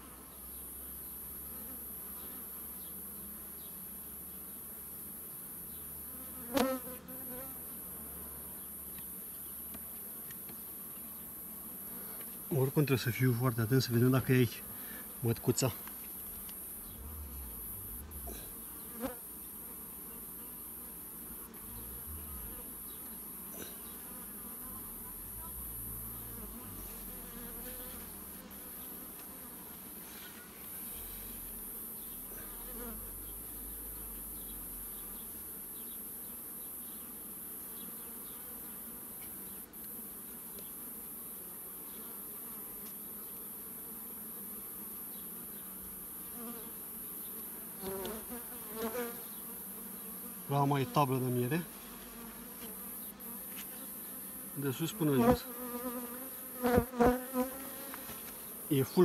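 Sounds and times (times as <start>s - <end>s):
bees buzzing: 6.0s - 59.0s.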